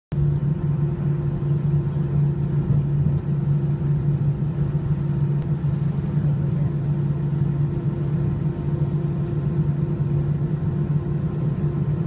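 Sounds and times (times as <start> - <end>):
jet engines humming in cabin: 0.1 - 12.0.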